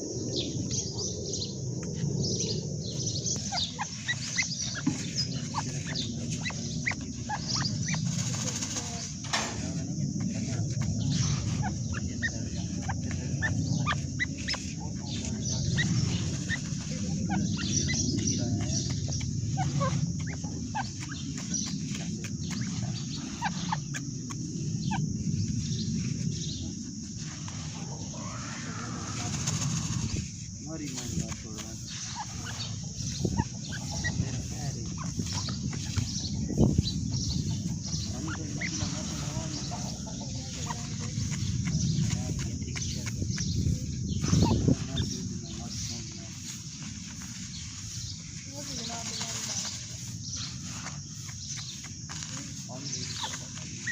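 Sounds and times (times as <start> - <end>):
birds chirping: 0.0 - 53.9
low background rumble: 0.0 - 53.9.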